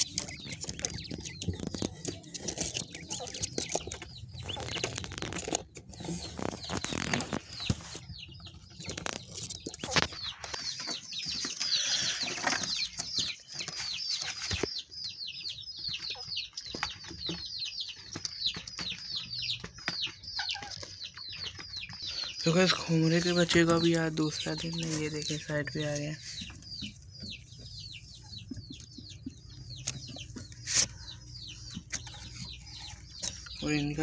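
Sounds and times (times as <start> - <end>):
quail scuffling: 0.0 - 34.0
rapid high bird chirps: 0.0 - 34.0.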